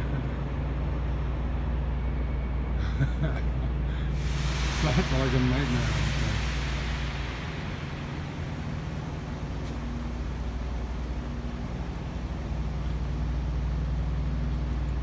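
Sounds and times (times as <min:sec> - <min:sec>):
low mechanical drone: 0:00.0 - 0:15.0
constant hiss: 0:02.9 - 0:15.0.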